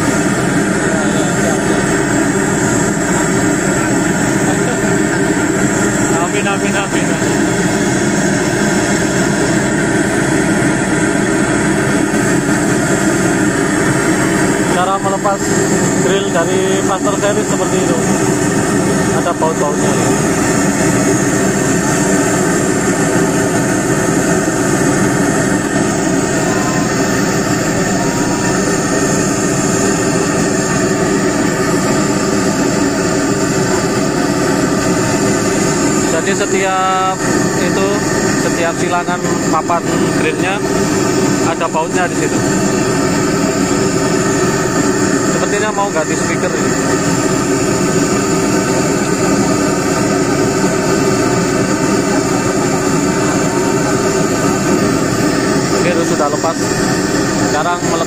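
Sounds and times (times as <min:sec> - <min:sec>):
large engine running: 0:00.0 - 0:58.0
loud mechanical drone: 0:00.0 - 0:58.0.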